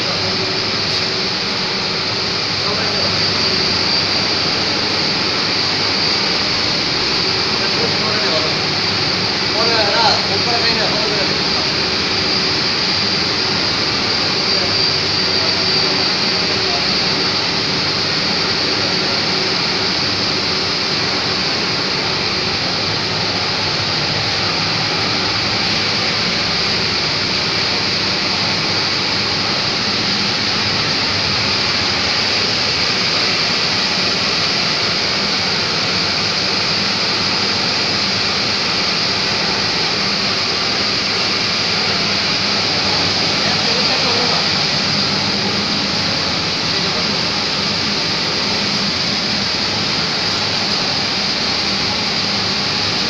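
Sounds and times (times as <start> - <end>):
machinery roar and hiss: 0.0 - 53.0.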